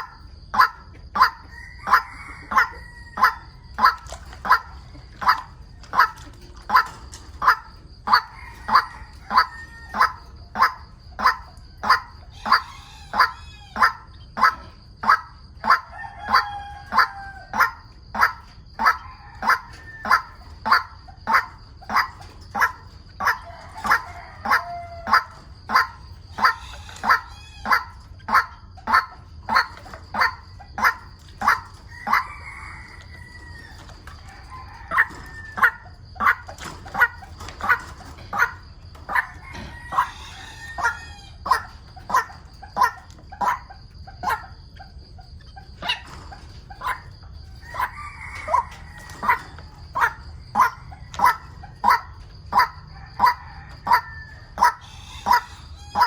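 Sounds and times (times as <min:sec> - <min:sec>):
bird harsh repeated calls: 0:00.0 - 0:56.0.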